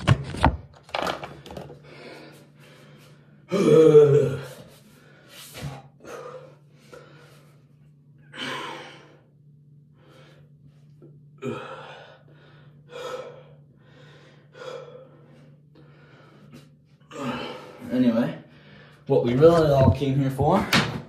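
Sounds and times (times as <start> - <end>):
steady low hum: 1.3 - 21.0
man breathing hard: 1.4 - 3.5, 4.2 - 19.1.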